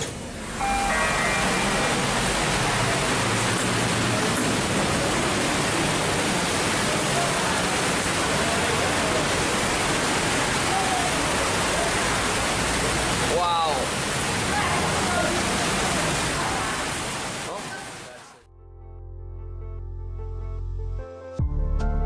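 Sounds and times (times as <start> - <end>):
heavy rain pouring: 0.0 - 18.5.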